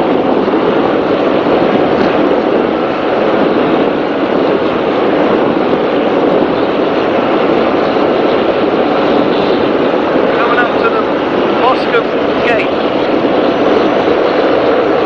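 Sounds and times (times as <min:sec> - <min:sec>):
powerboat engine: 0:00.0 - 0:15.0
wind rushing: 0:00.0 - 0:15.0.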